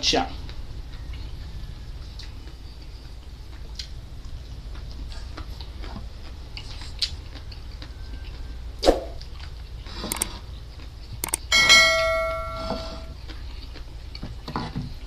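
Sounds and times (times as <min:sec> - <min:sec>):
steady low hum: 0:00.0 - 0:14.1
chewing clicks and crackles: 0:00.3 - 0:08.6, 0:09.2 - 0:11.5, 0:13.1 - 0:15.0.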